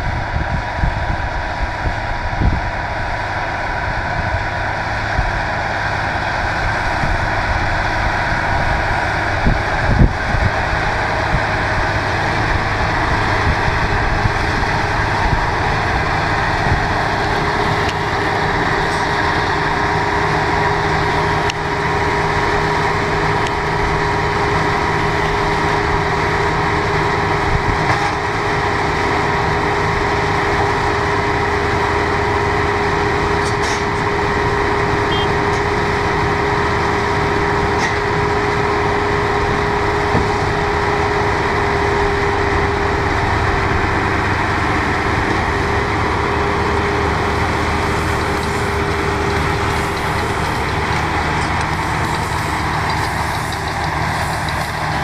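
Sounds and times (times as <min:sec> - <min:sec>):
steady mechanical whine: 0:00.0 - 0:55.0
tractor engine running: 0:00.0 - 0:55.0.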